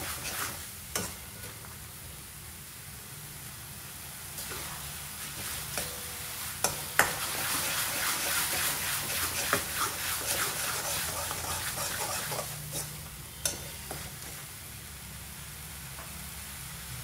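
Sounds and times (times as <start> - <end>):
chicken sizzling in oil: 0.0 - 17.0.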